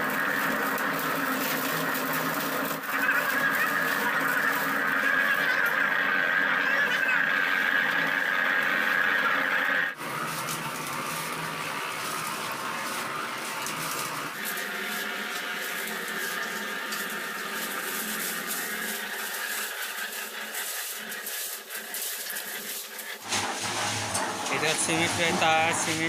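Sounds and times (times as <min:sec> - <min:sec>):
concrete mixer running: 0:00.0 - 0:26.0
high steady squeal: 0:00.0 - 0:26.0.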